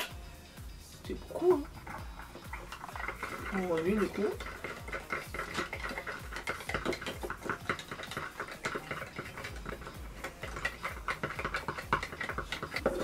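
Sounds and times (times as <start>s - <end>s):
spatula scraping in cup: 1.6s - 13.0s.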